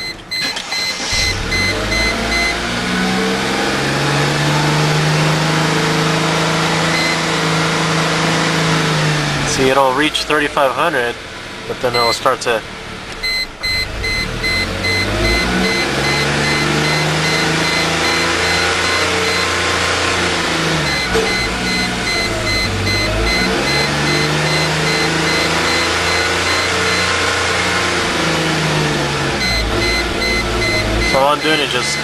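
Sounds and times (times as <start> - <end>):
misfiring car engine revving: 0.0 - 12.0, 12.6 - 32.0.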